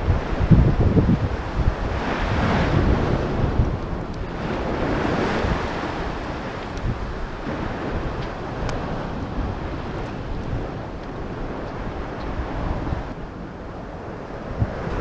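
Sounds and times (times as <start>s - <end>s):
surf against sea wall: 0.0s - 15.0s
wind buffeting microphone: 0.0s - 15.0s.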